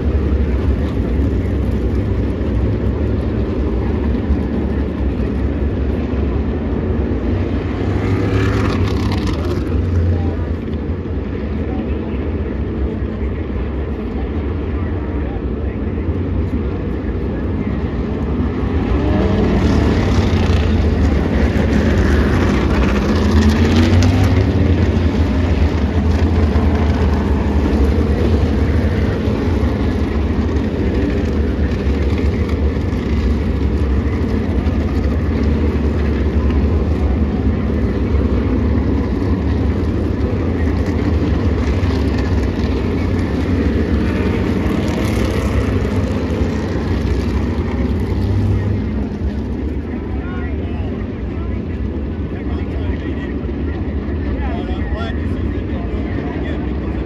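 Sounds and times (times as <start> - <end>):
cars passing by: 0.0 - 57.0
race car engines rumbling: 0.0 - 57.0.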